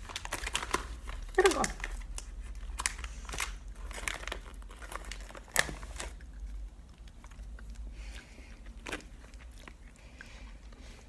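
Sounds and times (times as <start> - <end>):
plastic candy packet crinkling: 0.0 - 10.0.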